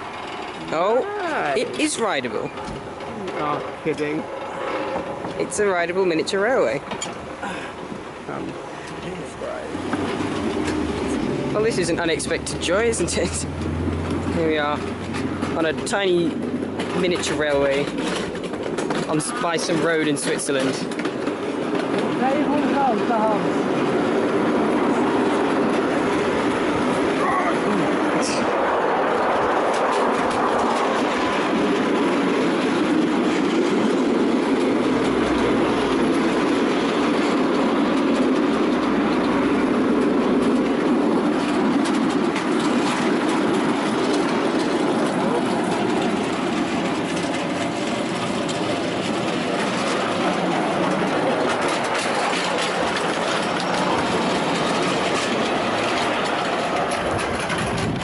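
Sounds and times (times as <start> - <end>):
small wheels rumbling on rails: 0.0 - 58.0.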